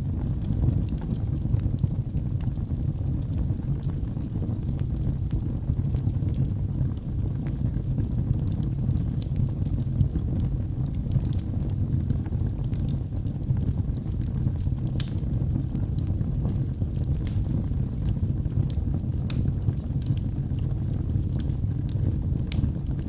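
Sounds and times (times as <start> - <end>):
logs crackling and popping: 0.0 - 23.0
rush of flames: 0.0 - 23.0.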